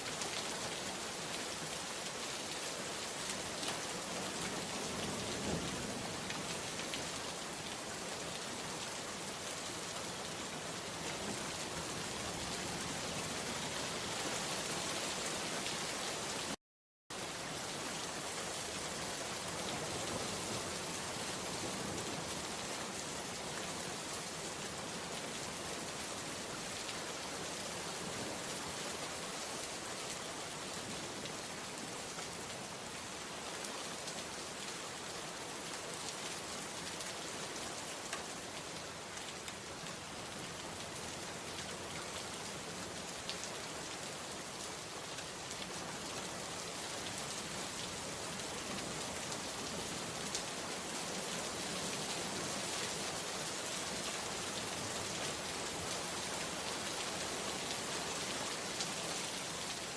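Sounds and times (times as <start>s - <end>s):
rain pattering on a surface: 0.0s - 16.6s, 17.2s - 59.9s.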